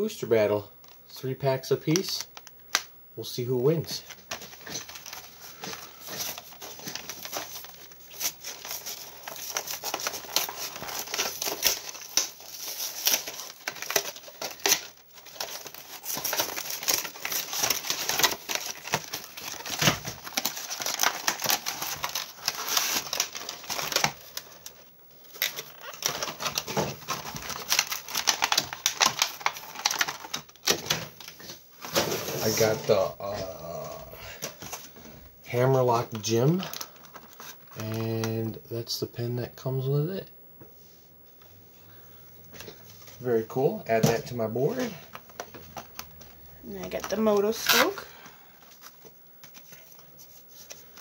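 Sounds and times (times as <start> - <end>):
plastic packaging crinkling: 3.6 - 38.5, 42.5 - 51.0.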